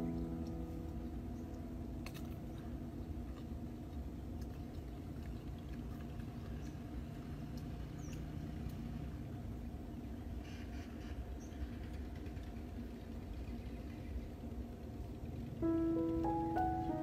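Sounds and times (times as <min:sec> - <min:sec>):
steady low hum: 0:00.0 - 0:10.4, 0:11.3 - 0:17.0.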